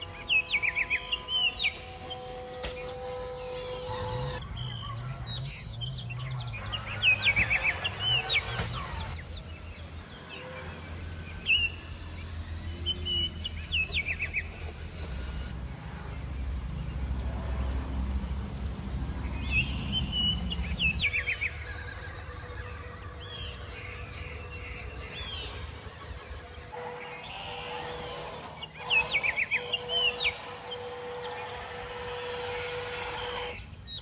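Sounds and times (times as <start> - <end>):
birds chirping: 0.0 - 34.0
steady low hum: 0.0 - 34.0.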